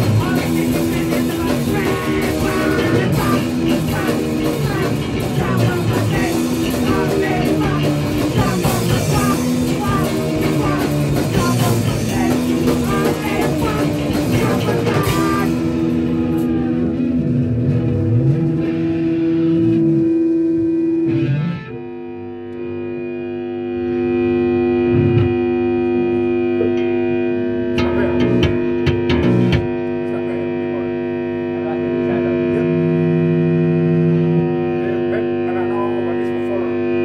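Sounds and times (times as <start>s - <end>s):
distorted electric guitar: 0.0s - 37.0s.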